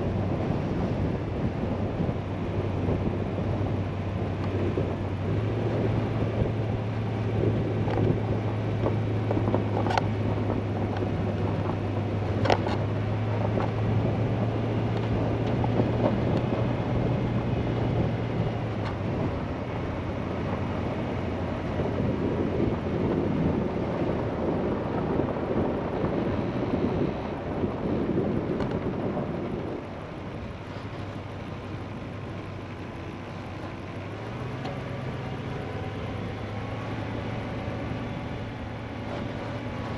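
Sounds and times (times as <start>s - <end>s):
tyres rumbling on gravel: 0.0s - 39.9s
vehicle engine hum: 0.0s - 39.9s.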